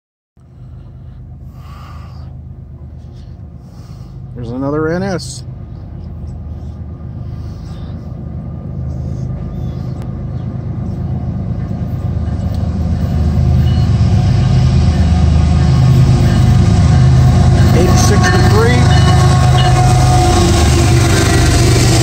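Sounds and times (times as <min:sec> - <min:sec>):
diesel locomotive engine rumble: 0:00.4 - 0:22.0.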